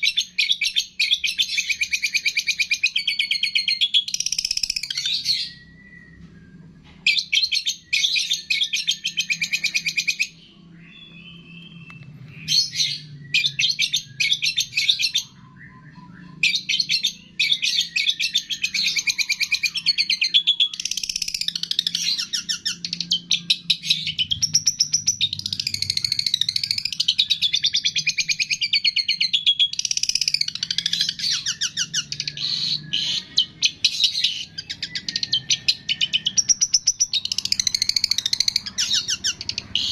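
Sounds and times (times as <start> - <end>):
songbird chirping trills: 0.0 - 39.9
faint low hum: 1.4 - 39.9.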